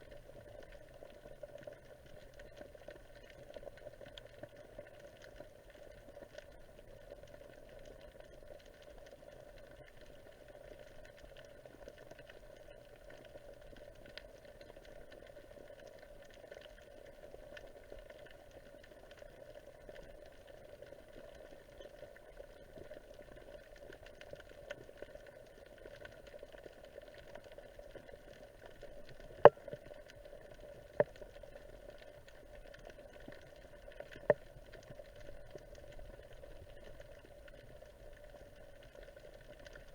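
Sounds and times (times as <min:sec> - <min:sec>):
faint crackling underwater hiss: 0:00.0 - 0:39.9.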